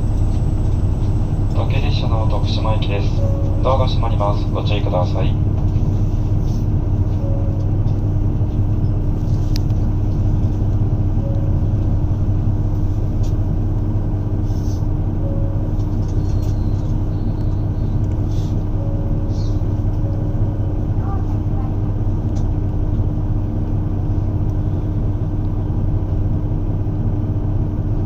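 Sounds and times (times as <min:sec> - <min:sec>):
diesel railcar rumbling: 0:00.0 - 0:28.0.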